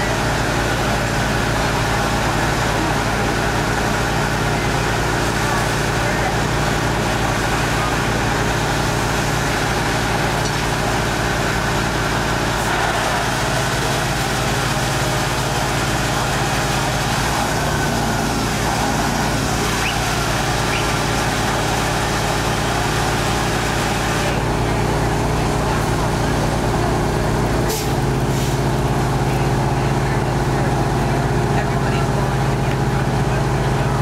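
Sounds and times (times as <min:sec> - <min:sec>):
fire engine motor humming: 0:00.0 - 0:34.0.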